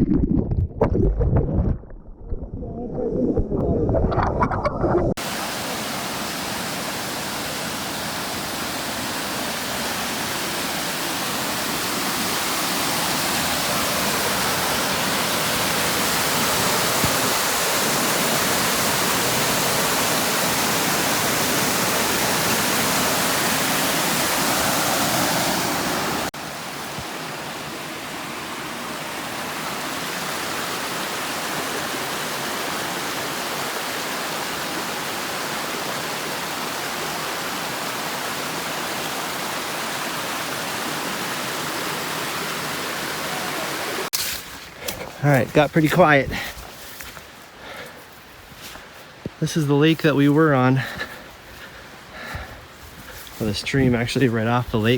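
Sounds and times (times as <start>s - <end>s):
water rushing over rocks: 0.0s - 47.2s.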